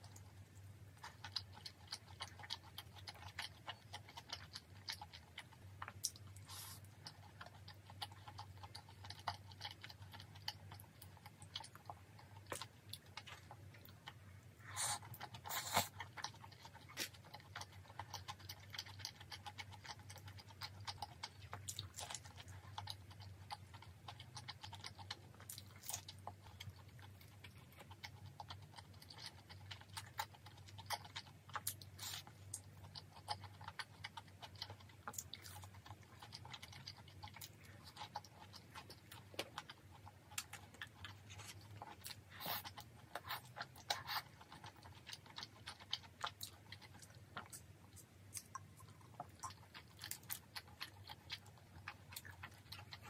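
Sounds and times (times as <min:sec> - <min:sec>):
chewing and crunching food: 0:00.0 - 0:53.0
faint low hum: 0:00.0 - 0:53.0.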